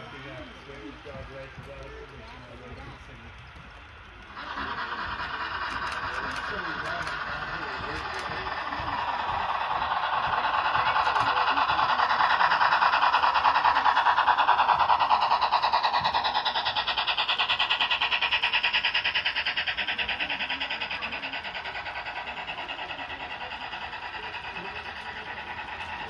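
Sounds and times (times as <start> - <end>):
model train rolling on track: 0.0 - 26.0.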